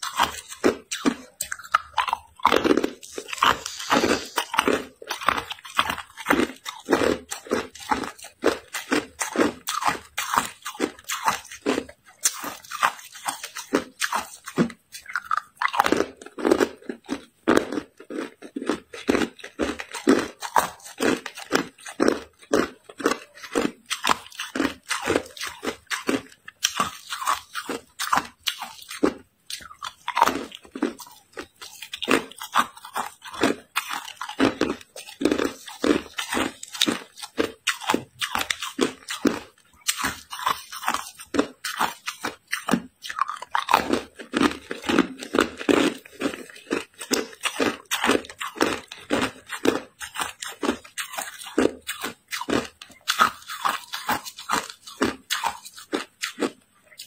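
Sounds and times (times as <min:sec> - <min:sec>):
ice cubes crunched and chewed: 0:00.0 - 0:57.0.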